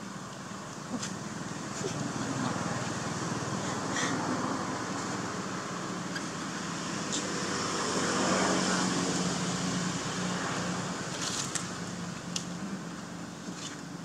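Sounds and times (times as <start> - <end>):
outdoor background hiss: 0.0 - 14.0
vehicle engine hum: 0.0 - 14.0.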